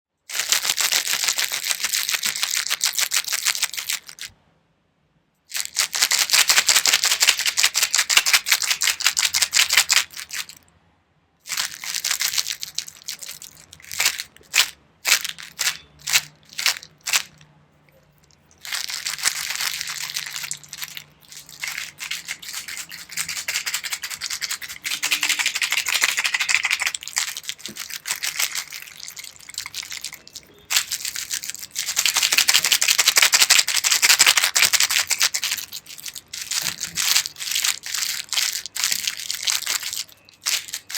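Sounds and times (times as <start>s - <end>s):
pills rattling in plastic jar: 0.3s - 4.3s, 5.5s - 10.6s, 11.4s - 17.4s, 18.2s - 40.9s.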